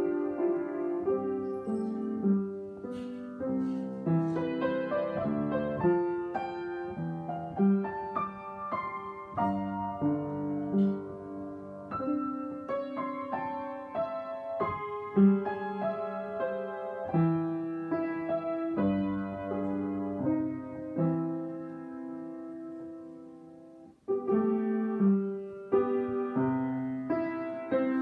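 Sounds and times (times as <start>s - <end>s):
solo piano playing: 0.0s - 28.0s.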